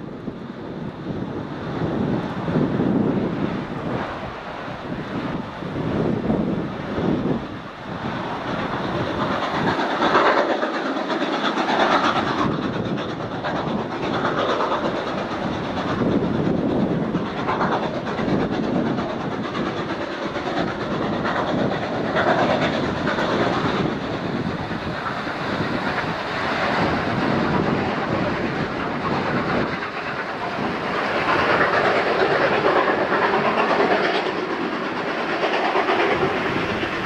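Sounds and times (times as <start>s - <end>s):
distant steam train: 0.0s - 37.0s.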